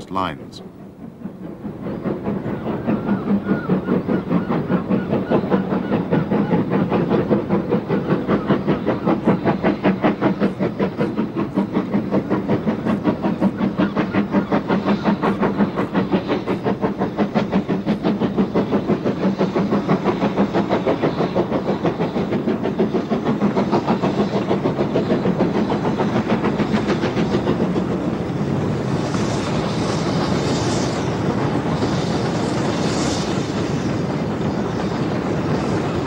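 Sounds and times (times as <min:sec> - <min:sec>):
steam locomotive exhaust beats: 0:00.0 - 0:36.0.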